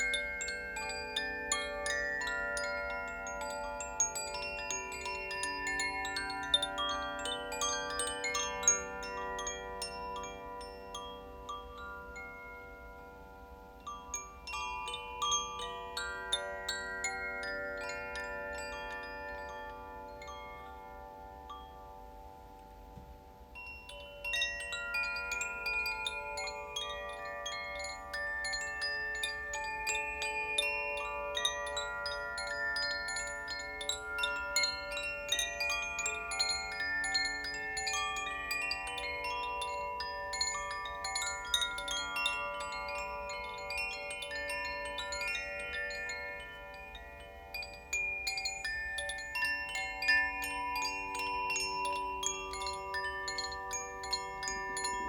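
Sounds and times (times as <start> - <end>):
wind chimes ringing: 0.0 - 55.0.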